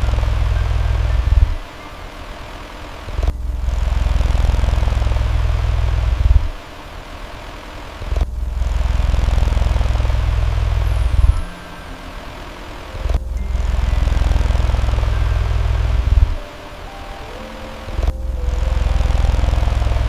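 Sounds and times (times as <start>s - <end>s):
electric fan rushing: 0.0s - 20.0s.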